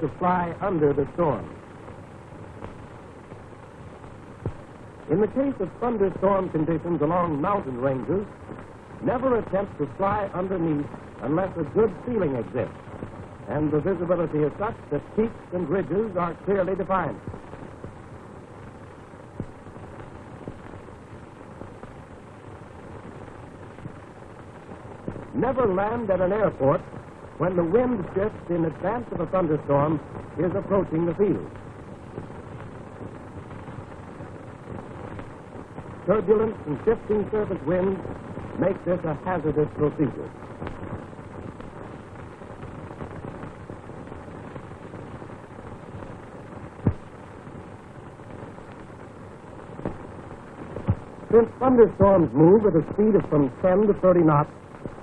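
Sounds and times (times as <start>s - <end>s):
film soundtrack hiss and rumble: 0.0s - 55.0s
crackle clicks: 0.1s - 55.0s.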